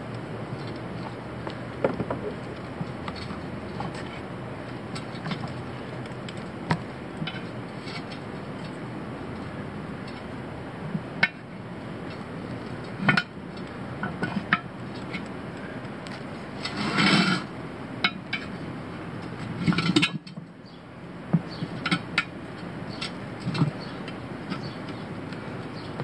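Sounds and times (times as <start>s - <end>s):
tire irons clinking on rim: 0.0s - 26.0s.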